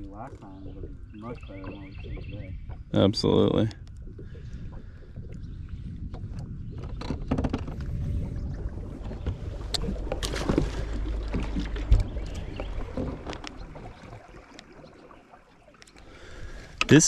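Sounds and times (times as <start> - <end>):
knocks and clicks on boat: 0.0 - 3.0, 3.6 - 8.4, 9.0 - 15.0, 16.7 - 17.0
wind and water rumble: 0.0 - 17.0.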